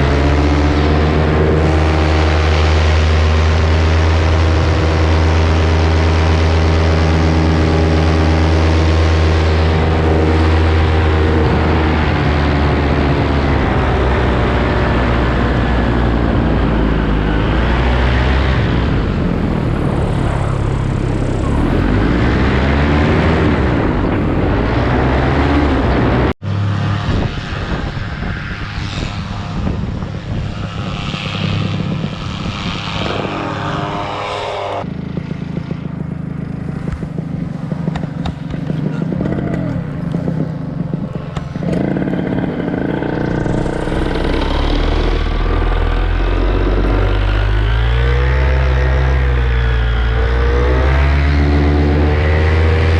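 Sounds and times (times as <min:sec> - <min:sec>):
paramotor engine droning: 0:00.0 - 0:52.9.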